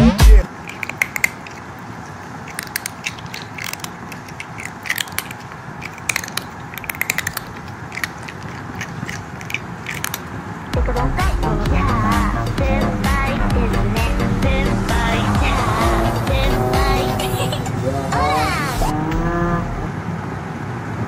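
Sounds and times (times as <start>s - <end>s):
cat chewing and crunching food: 0.3s - 17.2s.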